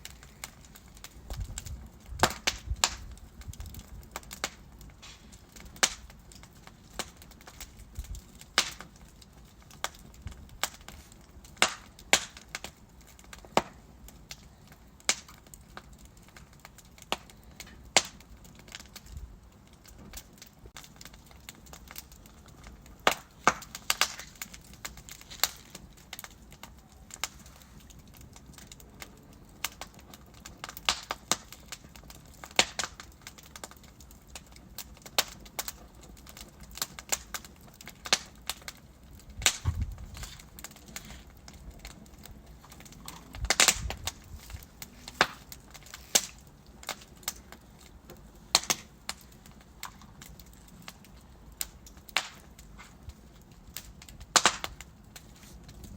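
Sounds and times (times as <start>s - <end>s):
wood fire crackling: 0.0s - 55.9s
sharp pops and snaps: 0.1s - 9.0s, 9.7s - 19.1s, 20.1s - 30.0s, 30.6s - 55.9s.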